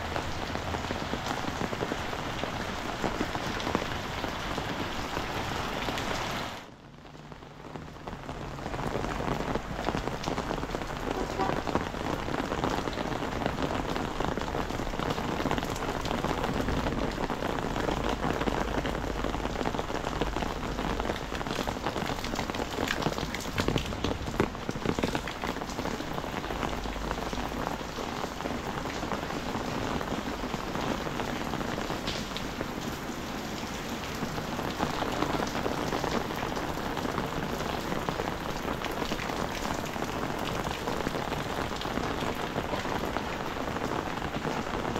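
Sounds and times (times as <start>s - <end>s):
heavy rain on pavement: 0.0s - 44.9s.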